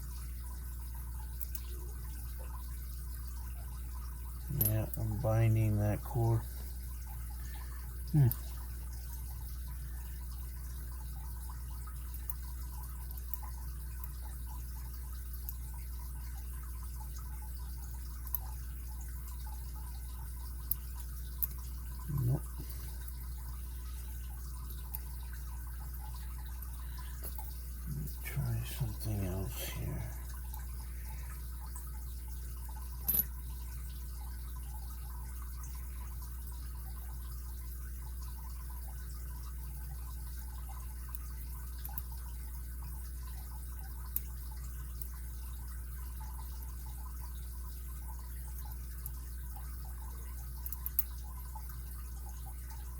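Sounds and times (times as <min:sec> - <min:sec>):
low electrical hum: 0:00.0 - 0:52.9.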